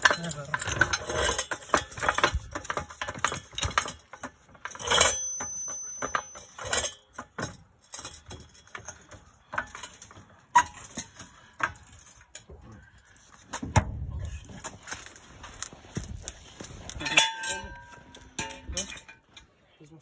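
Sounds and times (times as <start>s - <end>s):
metallic clinks and knocks: 0.0s - 19.5s.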